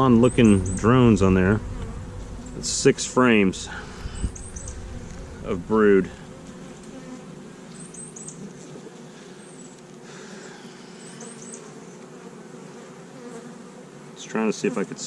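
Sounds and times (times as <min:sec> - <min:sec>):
honey bees buzzing: 0:00.0 - 0:15.0.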